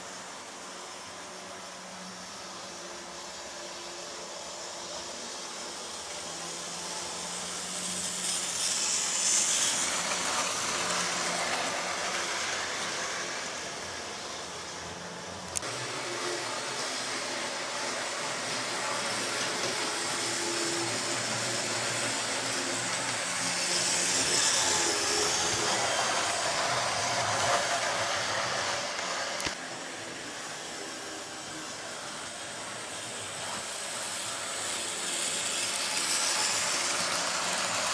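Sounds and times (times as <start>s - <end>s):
model train motor whirring: 0.0s - 37.9s.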